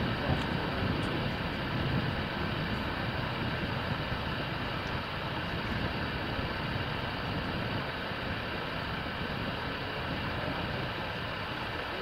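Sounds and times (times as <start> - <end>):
faint jet whine: 0.0 - 12.0
jet engine rumble: 0.0 - 12.0.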